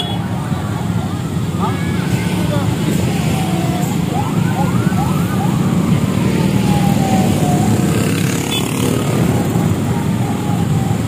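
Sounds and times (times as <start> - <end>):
scooter engines running: 0.0 - 11.0
siren whooping and wailing: 0.0 - 11.0.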